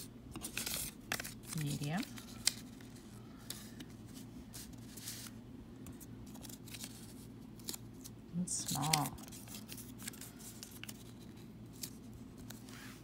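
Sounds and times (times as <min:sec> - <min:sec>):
paper rustling and scraping: 0:00.0 - 0:13.0.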